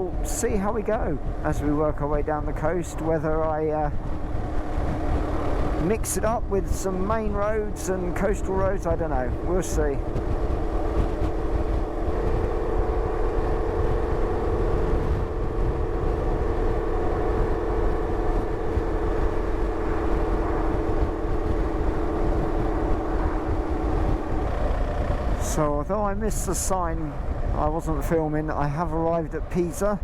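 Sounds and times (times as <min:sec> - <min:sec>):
motorcycle engine cruising: 0:00.0 - 0:30.0
road rumble: 0:00.0 - 0:30.0
wind: 0:00.0 - 0:30.0.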